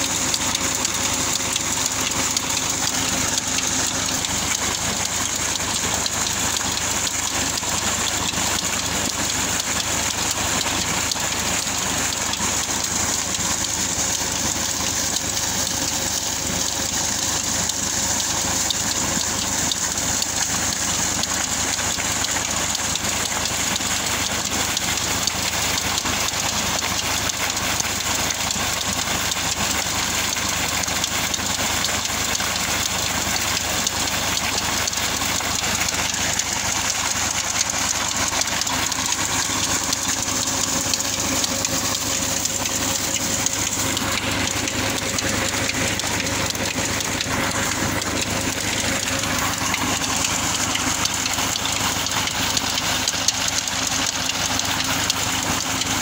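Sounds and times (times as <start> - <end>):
tractor engine running: 0.0 - 56.0
water gushing and splashing: 0.0 - 56.0.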